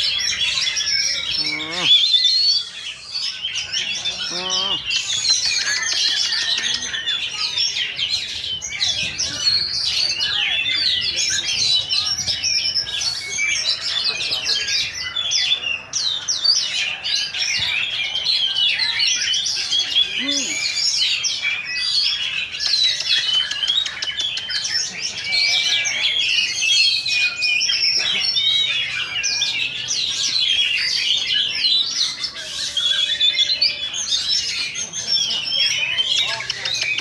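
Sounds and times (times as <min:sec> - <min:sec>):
magpie-robins singing in chorus: 0:00.0 - 0:37.0.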